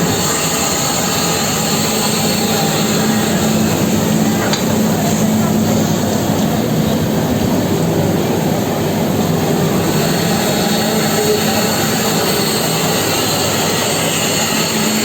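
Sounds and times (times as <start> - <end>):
steam locomotive rushing noise: 0.0 - 15.0.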